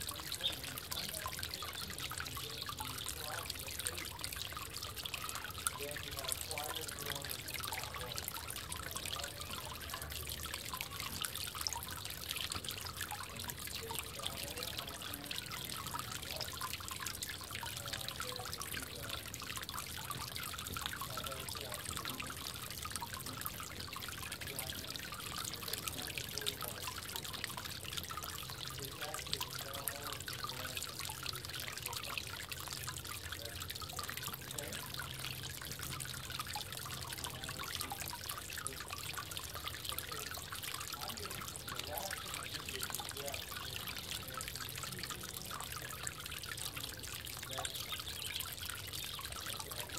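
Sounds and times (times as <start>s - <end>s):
water trickling and dripping: 0.0s - 49.9s.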